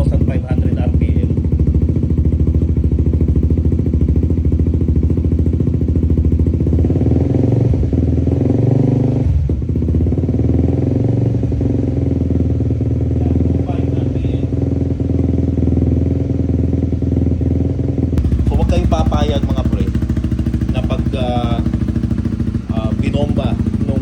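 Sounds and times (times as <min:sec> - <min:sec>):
motorcycle exhaust pulsing: 0:00.0 - 0:24.0.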